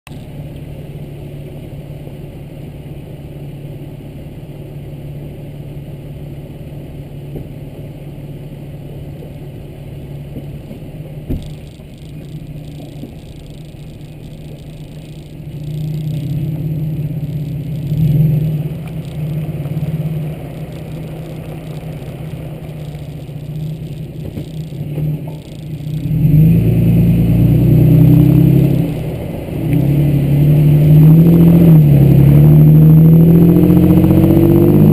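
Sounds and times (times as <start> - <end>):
pickup truck engine running: 0.1 - 34.9.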